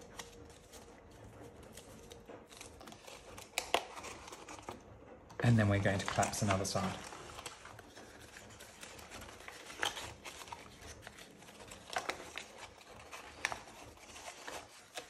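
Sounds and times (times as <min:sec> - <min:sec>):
paper rustling and crackling: 0:00.0 - 0:04.8, 0:05.4 - 0:15.0.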